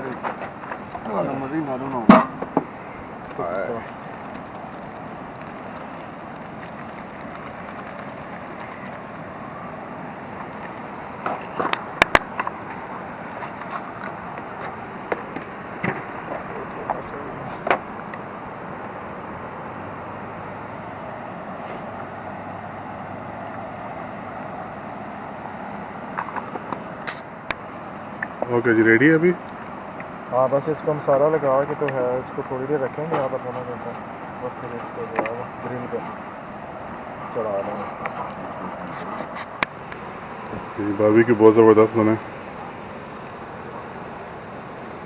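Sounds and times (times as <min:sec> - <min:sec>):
outdoor background noise: 0:00.0 - 0:45.0.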